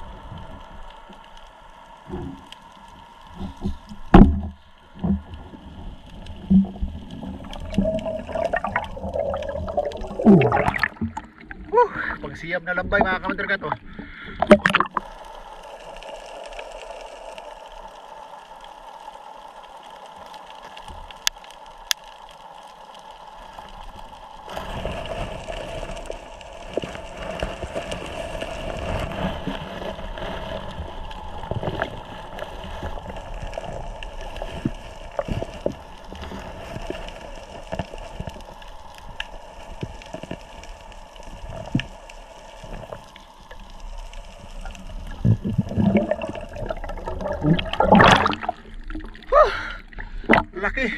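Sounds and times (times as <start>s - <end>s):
underwater hum: 0.0s - 50.9s.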